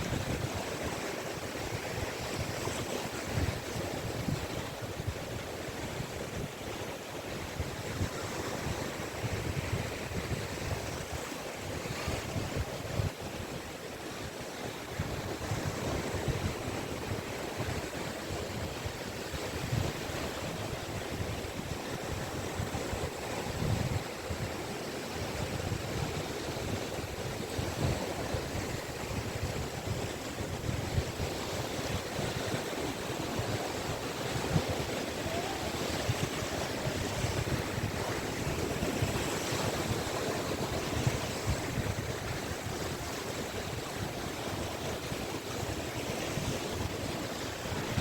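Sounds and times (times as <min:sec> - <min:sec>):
sea waves washing onto beach: 0:00.0 - 0:48.0
wind gusts on microphone: 0:00.0 - 0:48.0.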